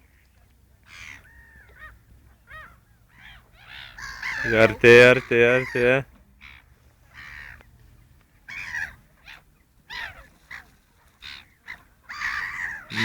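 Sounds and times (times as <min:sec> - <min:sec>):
birds calling: 0:00.9 - 0:07.8, 0:08.5 - 0:13.0.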